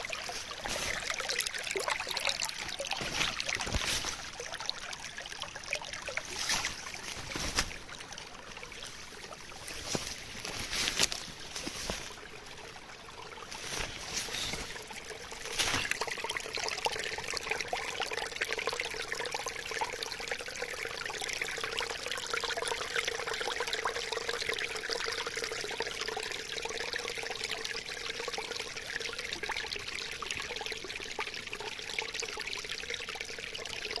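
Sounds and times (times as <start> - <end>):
water trickling and splashing: 0.0 - 34.0.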